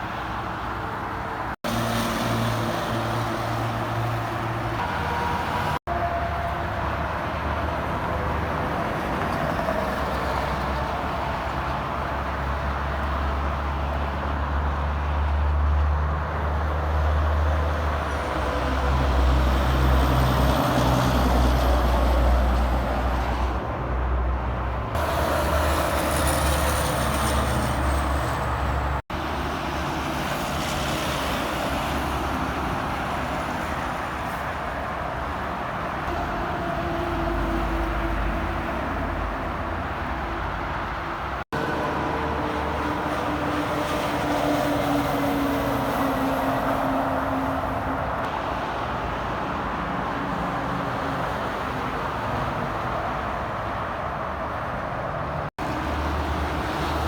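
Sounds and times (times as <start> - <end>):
highway traffic rumble: 0.0 - 57.0.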